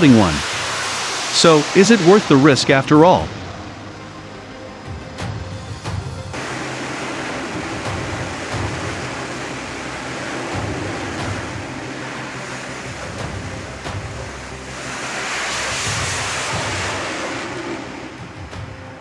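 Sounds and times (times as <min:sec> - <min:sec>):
jet engine roar: 0:00.0 - 0:04.8, 0:06.4 - 0:19.0
low music: 0:00.0 - 0:19.0.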